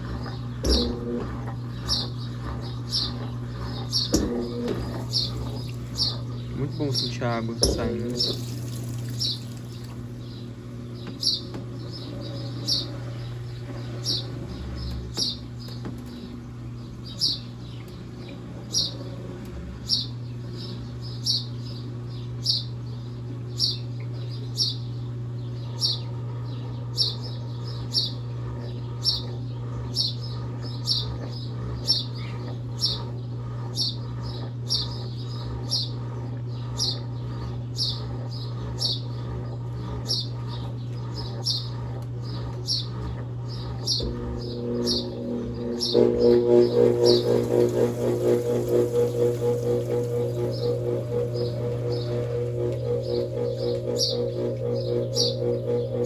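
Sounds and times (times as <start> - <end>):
washing machine motor humming: 0.0 - 56.0.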